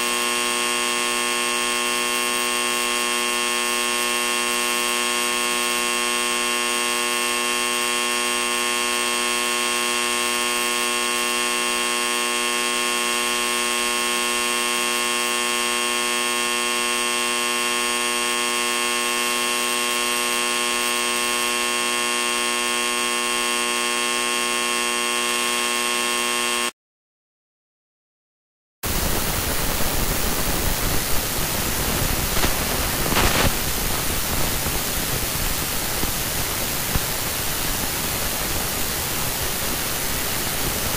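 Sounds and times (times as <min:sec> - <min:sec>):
static hiss: 0:00.0 - 0:23.6, 0:28.8 - 0:40.9
electronic drone of held tones: 0:00.0 - 0:26.7, 0:28.9 - 0:40.9.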